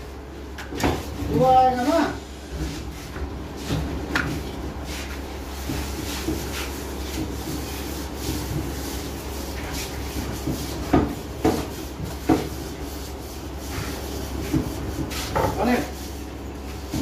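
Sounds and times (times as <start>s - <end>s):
kitchen background noise: 0.5s - 17.0s.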